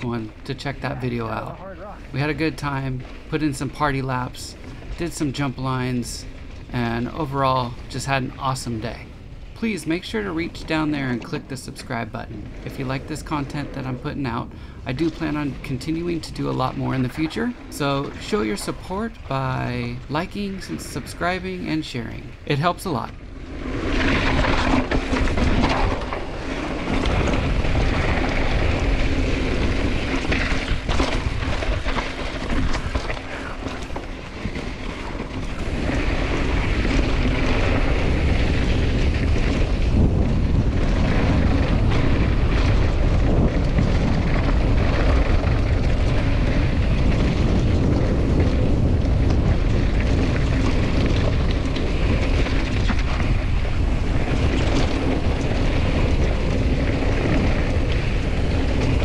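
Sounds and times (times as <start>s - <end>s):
mountain bike rumble: 0.0s - 59.0s
wind rushing over microphone: 0.0s - 59.0s.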